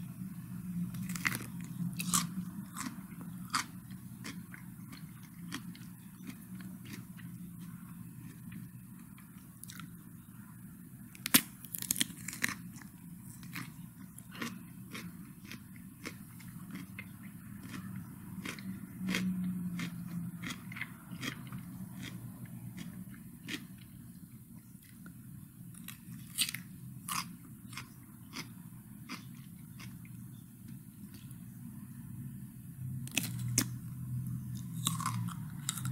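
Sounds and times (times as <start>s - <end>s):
person chewing raw cucumber: 0.9s - 10.2s, 11.2s - 24.0s, 24.6s - 31.4s, 33.1s - 35.9s.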